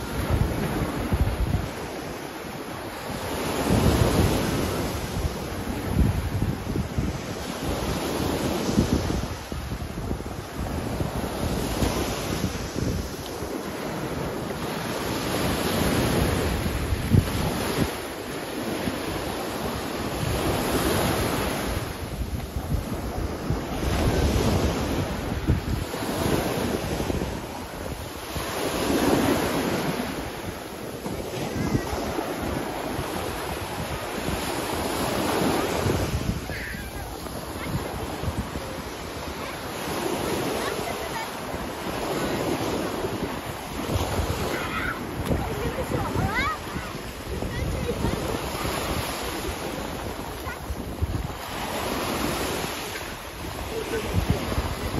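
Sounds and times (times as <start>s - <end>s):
small waves breaking on shore: 0.0s - 54.9s
surf washing onto beach: 0.0s - 54.9s
wind buffeting microphone: 0.0s - 54.9s.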